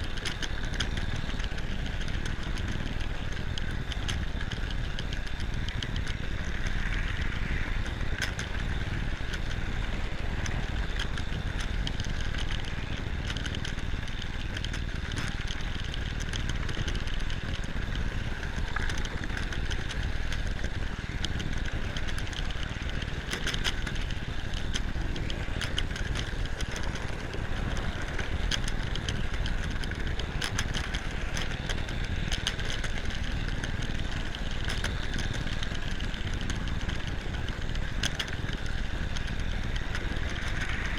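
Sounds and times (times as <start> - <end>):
model train motor whine: 0.0 - 40.9
wheels rumbling on rail: 0.0 - 40.9.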